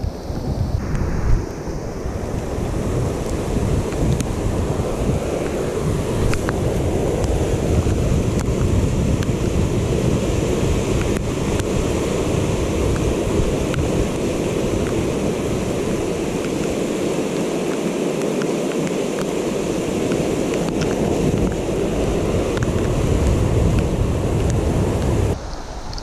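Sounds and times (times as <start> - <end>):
wind buffeting microphone: 0.0 - 18.0, 18.9 - 26.0
floodwater rushing: 0.0 - 26.0.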